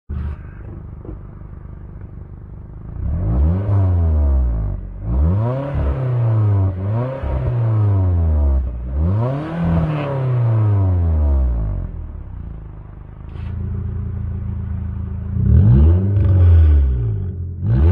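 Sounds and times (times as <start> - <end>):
car engine idling and revving: 0.1 - 17.9.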